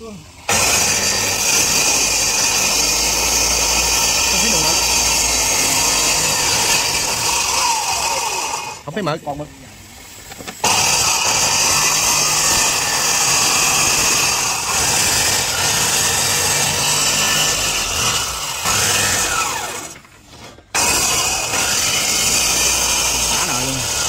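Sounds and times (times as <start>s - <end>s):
power tool cutting wood: 0.0s - 9.2s, 10.0s - 24.0s.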